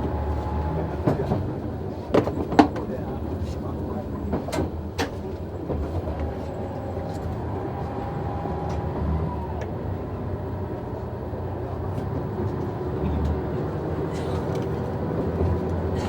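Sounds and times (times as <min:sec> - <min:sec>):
diesel railcar engine rumble: 0:00.0 - 0:16.0.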